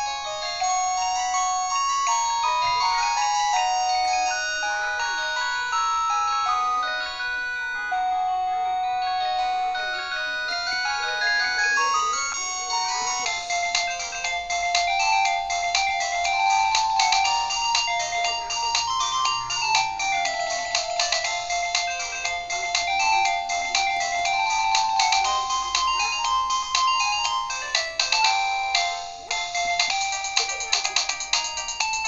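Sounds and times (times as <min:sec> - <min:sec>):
synthesized ringtone melody: 0:00.0 - 0:32.0.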